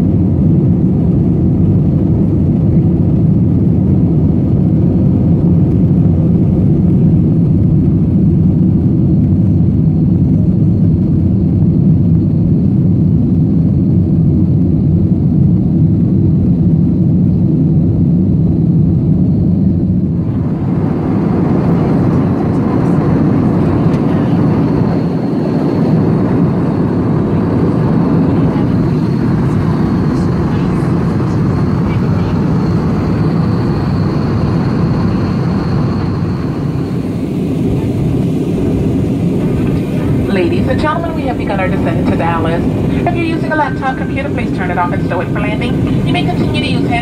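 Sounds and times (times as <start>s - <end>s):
airliner cabin noise: 0.0s - 47.0s
jet engine cabin rumble: 0.0s - 47.0s.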